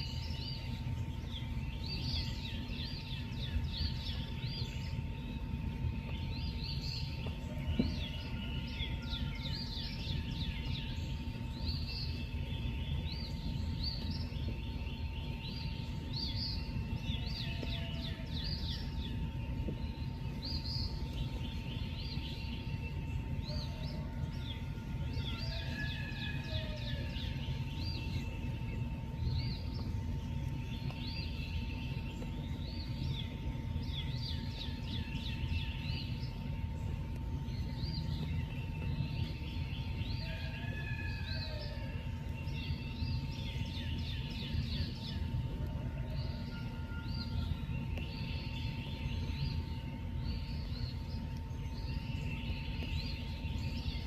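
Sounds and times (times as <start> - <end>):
steady low rumble: 0.0 - 40.5, 41.3 - 54.0.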